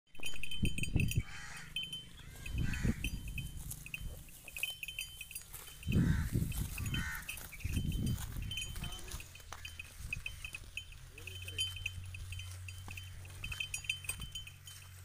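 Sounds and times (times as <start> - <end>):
buffalo tearing and chewing grass: 0.3 - 15.0.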